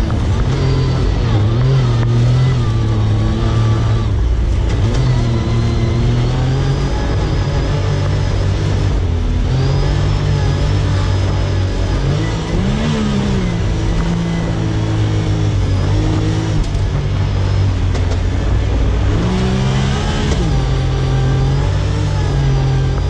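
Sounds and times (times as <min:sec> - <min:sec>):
utv engine revving: 0:00.0 - 0:23.0.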